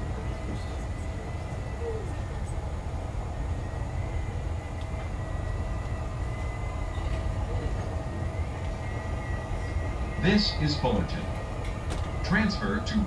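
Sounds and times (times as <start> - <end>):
thin steady train whine: 0.0 - 13.0
train wheels and motors rumbling: 0.0 - 13.0.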